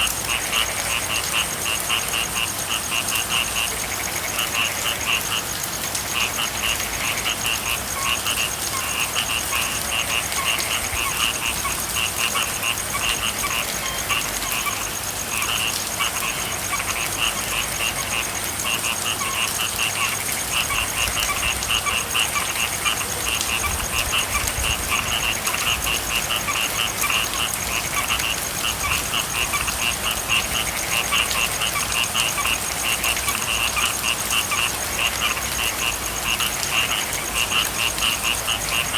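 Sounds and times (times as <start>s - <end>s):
frogs croaking: 0.0s - 38.9s
rain falling: 0.0s - 38.9s.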